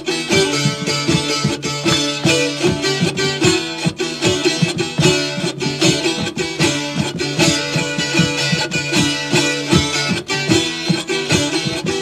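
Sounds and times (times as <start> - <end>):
small stringed instrument strummed fast: 0.0 - 12.0.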